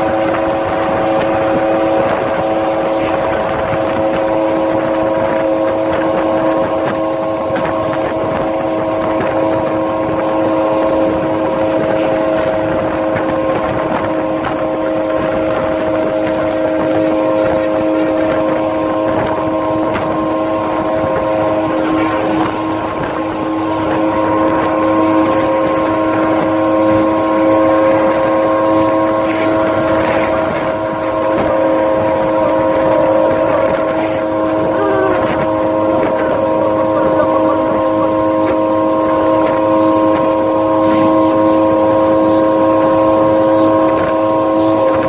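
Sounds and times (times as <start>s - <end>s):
vehicle engine droning: 0.0s - 45.0s.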